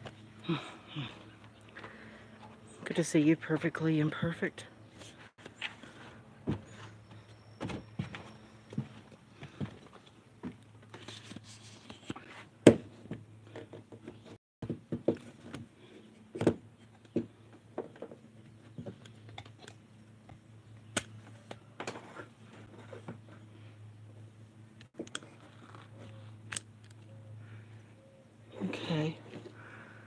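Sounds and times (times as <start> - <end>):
steady low hum: 0.0 - 14.0, 15.2 - 30.0.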